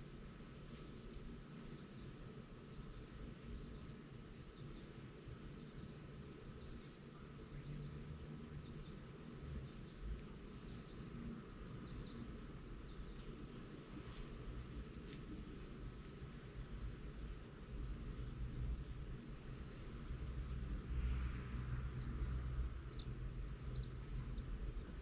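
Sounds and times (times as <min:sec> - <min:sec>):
fire crackling: 0:00.0 - 0:25.0
low fire rumble: 0:00.0 - 0:25.0.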